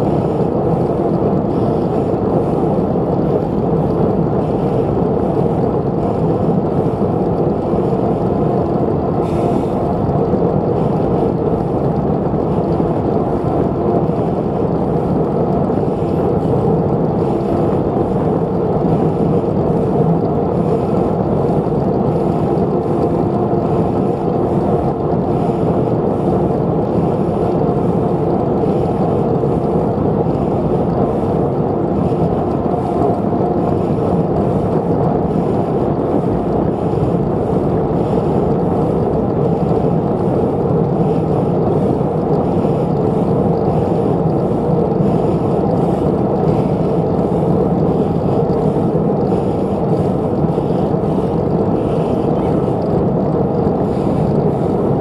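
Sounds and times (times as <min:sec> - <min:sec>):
bicycle tyre noise: 0:00.0 - 0:53.0.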